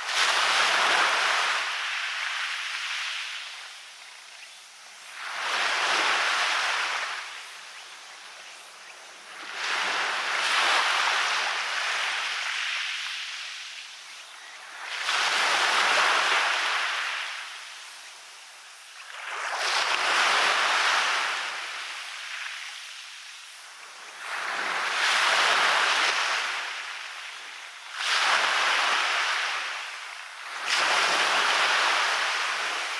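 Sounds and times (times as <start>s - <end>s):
waves breaking on a beach: 0.0s - 32.9s.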